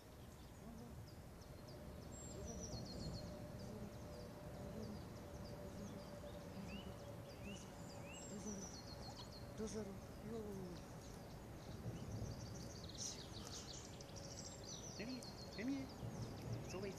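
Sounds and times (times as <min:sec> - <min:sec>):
faint hum: 0:00.0 - 0:16.9.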